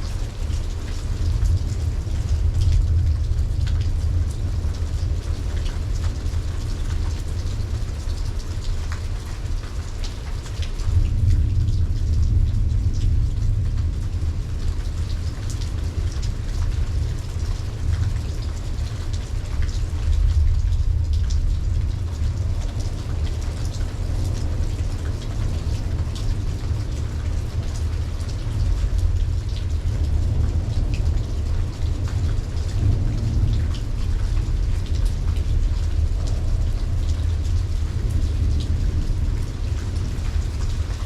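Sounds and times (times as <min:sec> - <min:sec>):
low thunder rumble: 0:00.0 - 0:41.0
raindrops ticking close by: 0:00.0 - 0:41.0
steady rain falling: 0:00.0 - 0:41.0.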